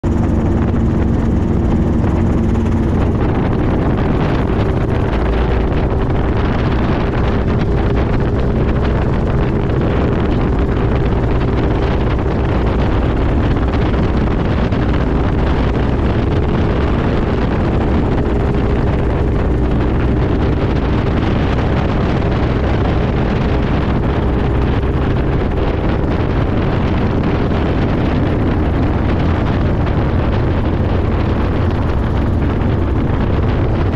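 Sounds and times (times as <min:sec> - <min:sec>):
helicopter engine and rotor: 0:00.0 - 0:33.9
wind rush: 0:00.0 - 0:33.9.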